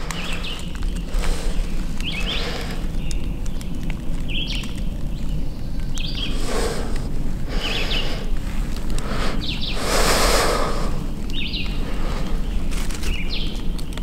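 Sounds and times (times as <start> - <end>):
footsteps in dry leaves: 0.0 - 13.9
songbird chirping: 0.0 - 14.0.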